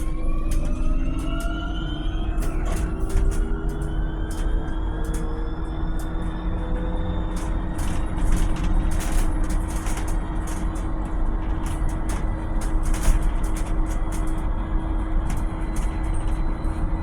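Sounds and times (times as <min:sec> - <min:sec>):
electric bus running: 0:00.0 - 0:17.0.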